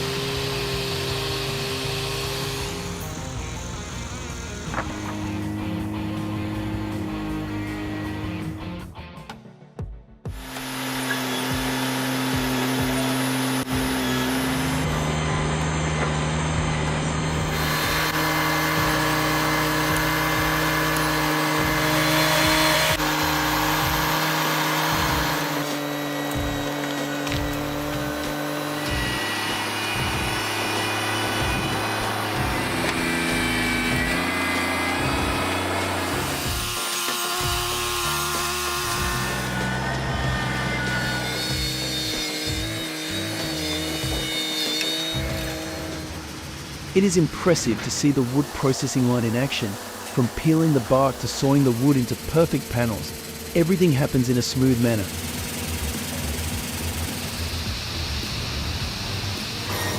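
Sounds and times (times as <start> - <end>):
heavy machinery motor hum: 0.0 - 8.9, 10.3 - 59.9
power saw cutting wood: 0.0 - 8.9, 10.3 - 59.9.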